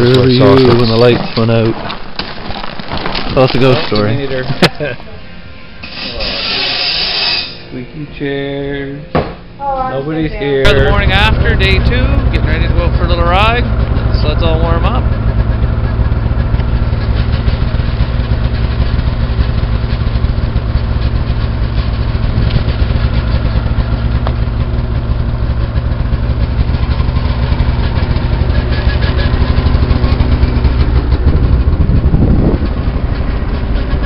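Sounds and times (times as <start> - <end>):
snowmobile engines idling: 0.0 - 2.3, 2.9 - 5.2, 10.2 - 34.0.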